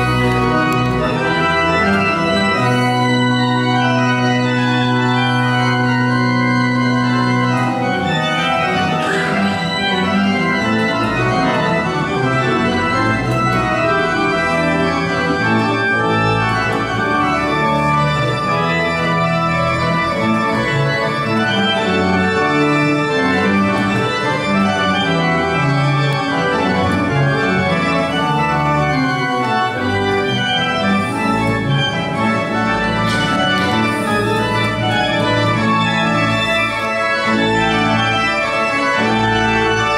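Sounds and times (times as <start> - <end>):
pipe organ playing chords: 0.0 - 39.9.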